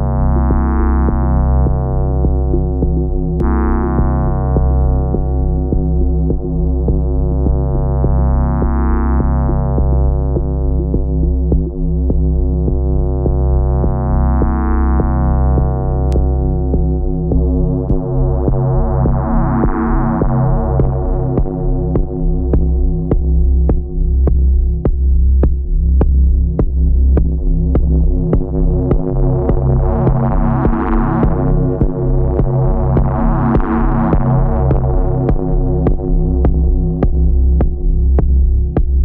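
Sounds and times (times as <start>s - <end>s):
deep bass: 0.0s - 39.0s
synthesizer drone: 0.0s - 39.0s.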